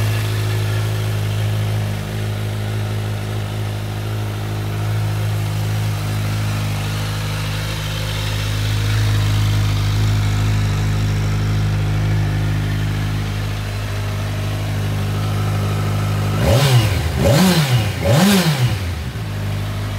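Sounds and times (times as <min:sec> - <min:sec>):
motorcycle engine idling and revving: 0:00.0 - 0:19.9.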